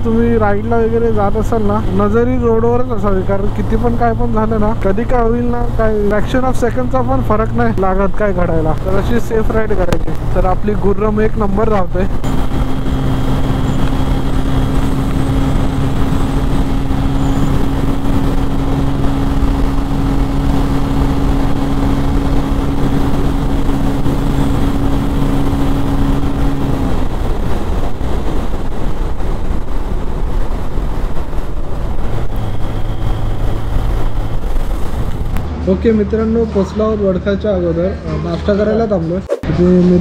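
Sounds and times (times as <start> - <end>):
wind rushing on microphone: 0.0 - 36.9
motorcycle engine cruising: 0.0 - 37.1.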